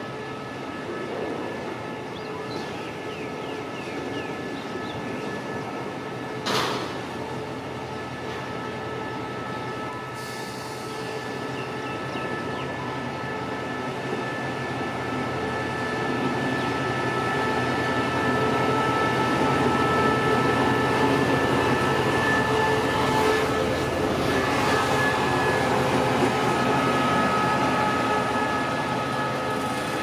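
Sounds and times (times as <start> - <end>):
locomotive engine whining: 0.0 - 30.0.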